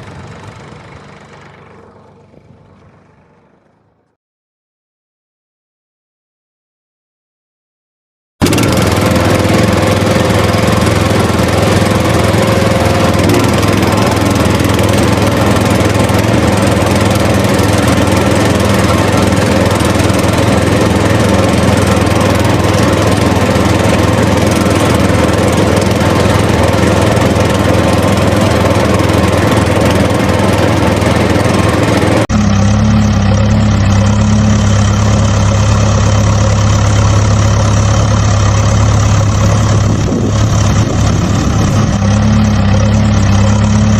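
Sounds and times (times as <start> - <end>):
deeper engine hum: 0.0 - 4.2, 8.4 - 43.9
engine running: 0.0 - 4.2, 8.4 - 43.9.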